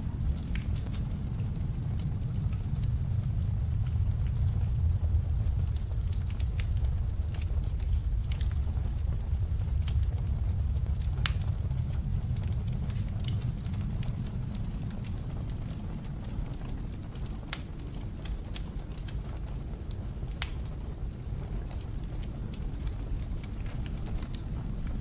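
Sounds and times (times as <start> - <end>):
blizzard wind rumble: 0.0 - 25.0
fireplace crackling and popping: 0.0 - 25.0.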